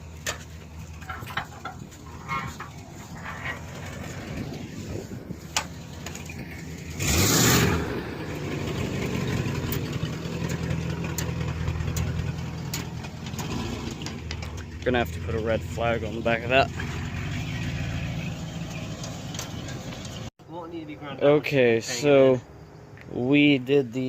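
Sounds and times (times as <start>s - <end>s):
truck engine running: 0.0s - 20.3s.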